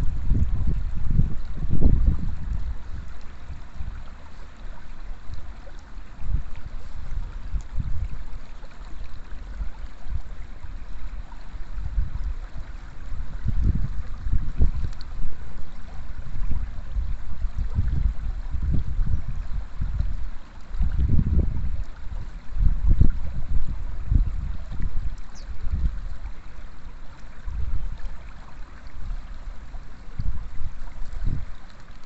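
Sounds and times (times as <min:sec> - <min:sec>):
wind buffeting microphone: 0:00.0 - 0:26.3, 0:27.3 - 0:31.6
river water flowing over stones: 0:00.0 - 0:32.0.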